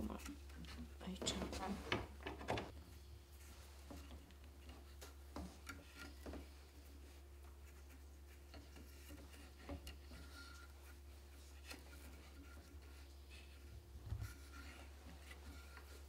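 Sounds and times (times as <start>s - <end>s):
thread handling ticks and rustles: 0.0s - 16.0s.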